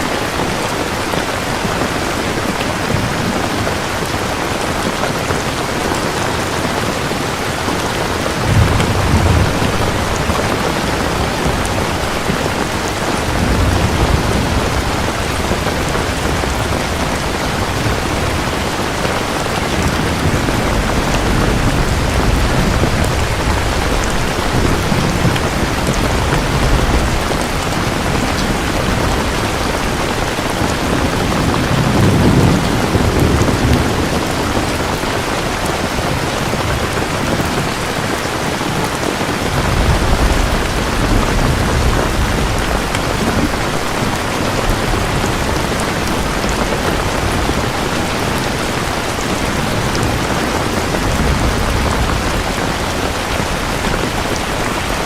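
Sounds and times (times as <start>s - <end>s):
heavy rain: 0.0s - 55.0s
distant thunder rumbling: 7.8s - 37.6s, 39.5s - 55.0s.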